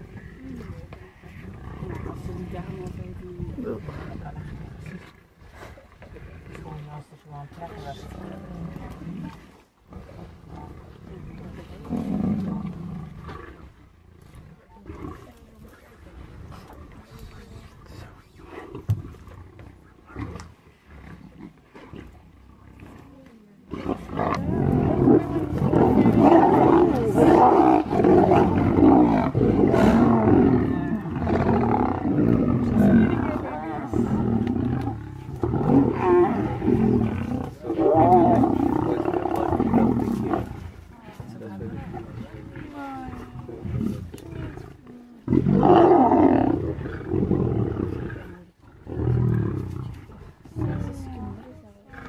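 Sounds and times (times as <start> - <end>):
lions growling: 0.0 - 7.0, 7.7 - 52.0.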